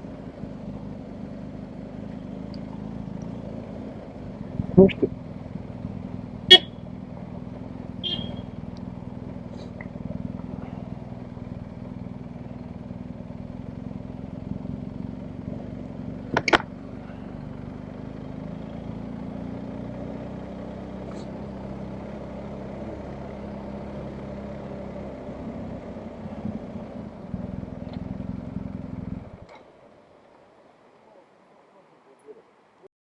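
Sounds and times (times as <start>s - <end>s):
motorcycle engine idling: 0.0s - 29.5s.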